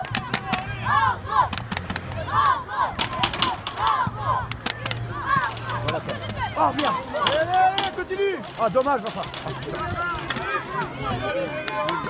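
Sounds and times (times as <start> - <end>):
young people shouting: 0.0 - 8.4, 9.9 - 12.0.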